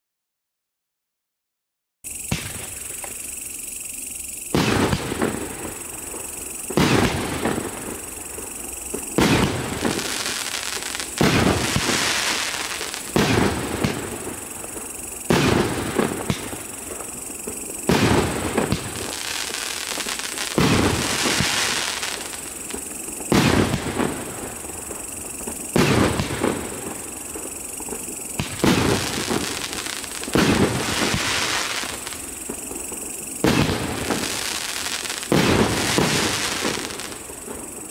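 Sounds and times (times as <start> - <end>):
firework crackling: 2.1 - 37.9
firework bangs: 2.2 - 3.4, 4.4 - 37.9.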